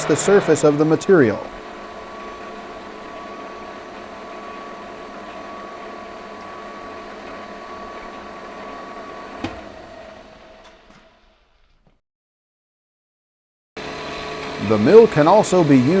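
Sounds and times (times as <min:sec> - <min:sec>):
milling machine hum with whine: 0:00.0 - 0:11.0, 0:13.8 - 0:16.0.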